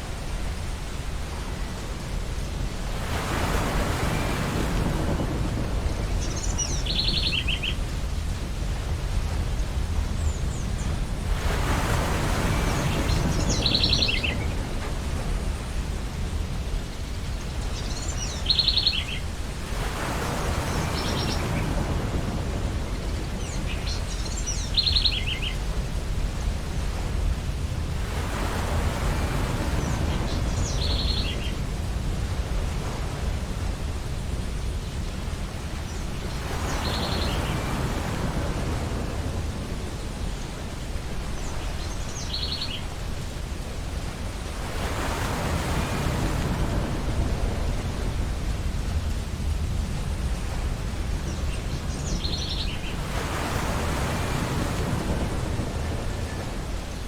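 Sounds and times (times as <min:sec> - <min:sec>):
ocean surf waves: 0:00.0 - 0:57.0.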